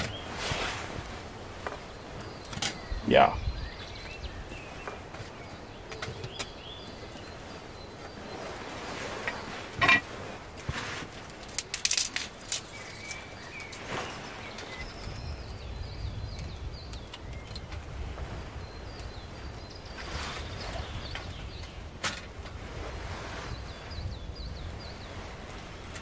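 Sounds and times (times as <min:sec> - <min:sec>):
birds chirping: 0:00.0 - 0:00.7, 0:01.6 - 0:10.1, 0:11.5 - 0:22.4, 0:23.3 - 0:26.0.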